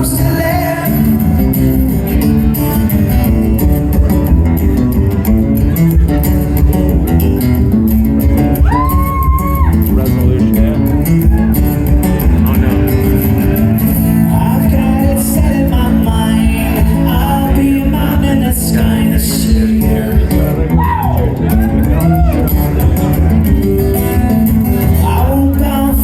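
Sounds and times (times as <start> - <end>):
live rock music with guitar: 0.0 - 26.0.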